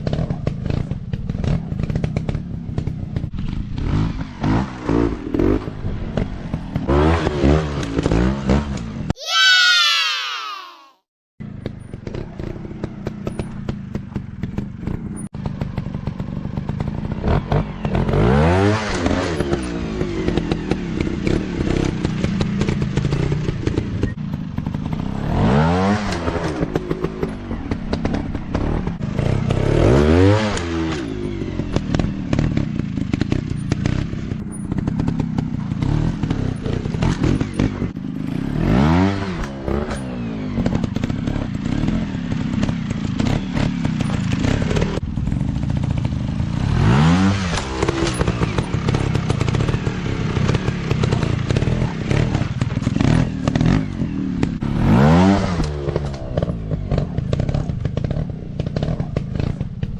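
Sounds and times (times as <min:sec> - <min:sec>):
dirt bike engine revving: 0:00.0 - 0:10.9, 0:12.0 - 0:59.7.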